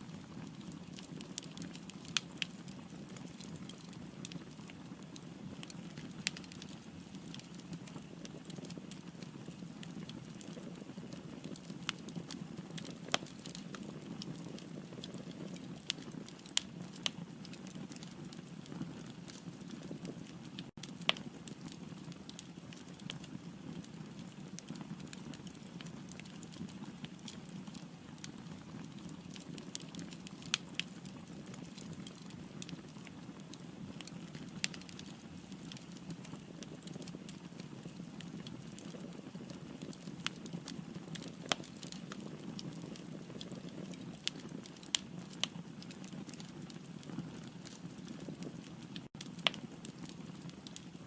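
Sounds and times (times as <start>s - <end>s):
firewood crackling in fireplace: 0.0s - 51.0s.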